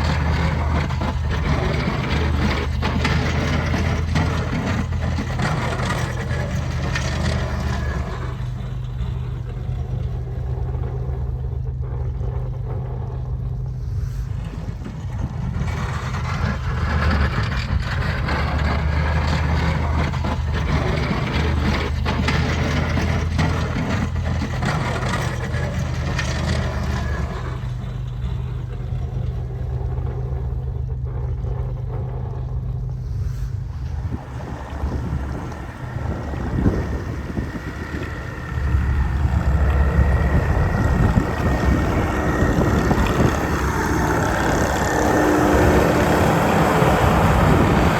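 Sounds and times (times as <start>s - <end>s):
rushing noise of passing trucks: 0.0s - 12.5s, 13.6s - 30.6s, 32.8s - 47.9s
truck engine hum: 0.0s - 47.9s.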